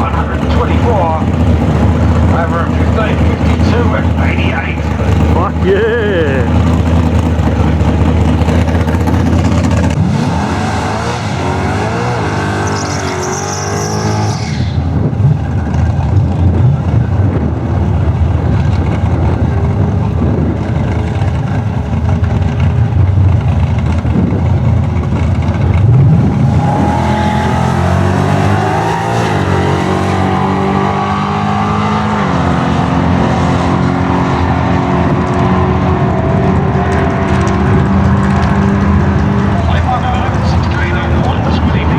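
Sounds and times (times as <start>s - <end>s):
car engine at full throttle: 0.0s - 41.9s.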